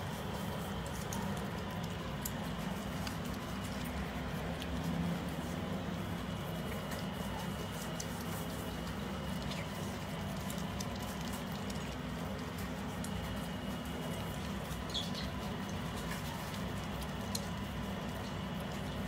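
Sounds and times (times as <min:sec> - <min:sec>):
low background hum: 0:00.0 - 0:19.0
otters pattering on carpet: 0:00.0 - 0:19.0.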